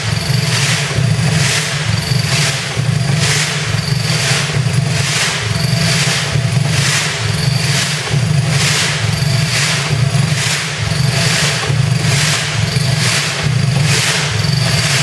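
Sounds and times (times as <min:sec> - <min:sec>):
air compressor humming: 0:00.0 - 0:15.0.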